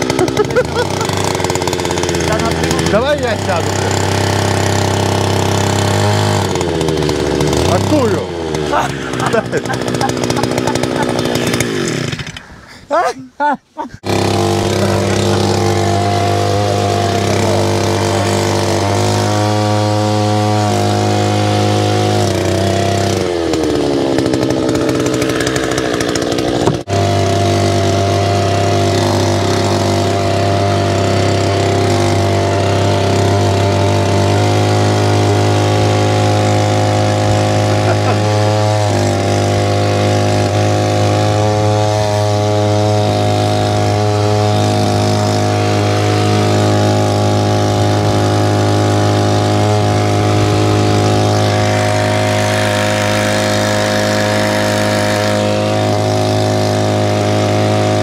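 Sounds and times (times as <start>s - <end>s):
outboard motor running: 0.0s - 13.1s, 14.0s - 58.0s.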